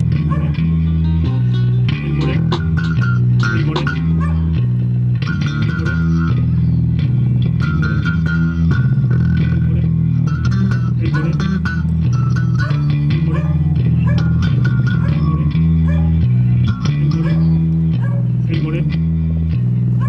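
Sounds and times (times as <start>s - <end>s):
bass guitar line: 0.0s - 20.0s
plucked guitar: 0.0s - 20.0s.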